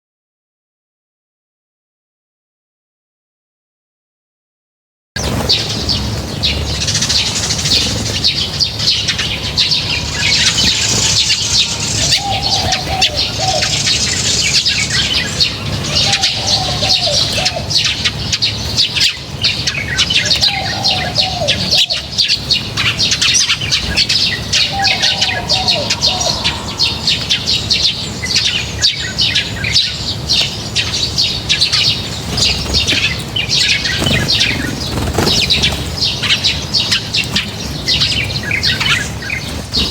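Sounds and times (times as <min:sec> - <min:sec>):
lower falling bird call: 0:05.2 - 0:19.2, 0:20.0 - 0:29.6, 0:30.5 - 0:39.1
small birds chirping: 0:05.2 - 0:39.9.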